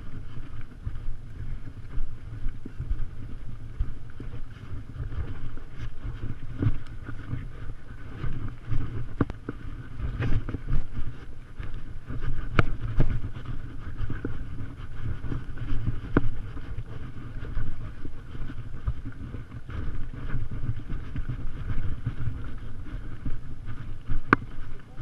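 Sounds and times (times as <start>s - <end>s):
microphone jostling: 0.0s - 25.0s
wind noise on microphone: 0.0s - 25.0s.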